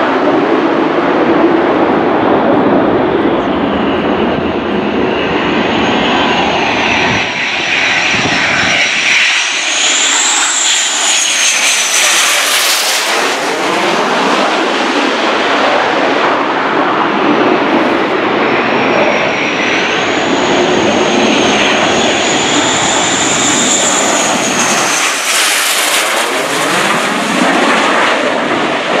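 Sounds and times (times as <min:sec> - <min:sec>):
high jet whine: 0:00.0 - 0:29.0
jet engines roaring: 0:00.0 - 0:29.0.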